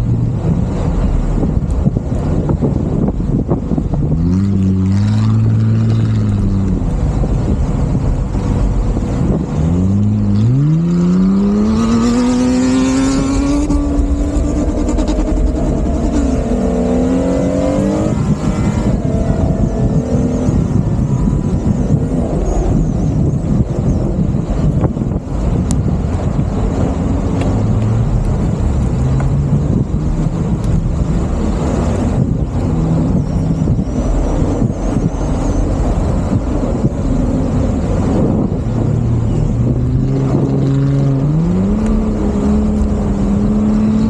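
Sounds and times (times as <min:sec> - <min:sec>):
wind noise: 0:00.0 - 0:44.0.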